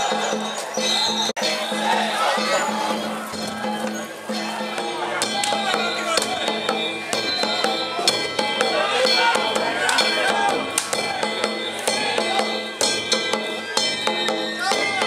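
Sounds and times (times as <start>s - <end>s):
small metal gongs clanging: 0.0s - 15.0s
taiko drum in quick rhythm: 0.0s - 15.0s
voices calling: 0.0s - 15.0s.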